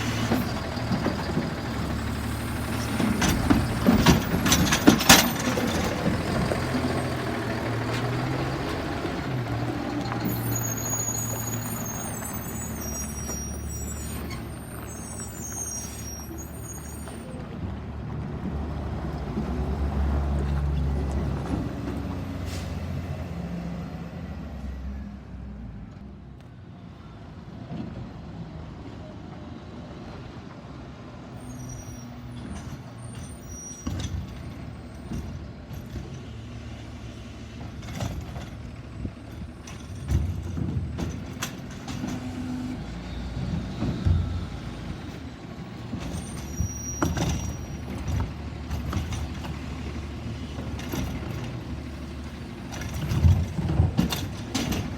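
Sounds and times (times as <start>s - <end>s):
garbage truck engine humming: 0.0s - 26.0s, 32.7s - 54.9s.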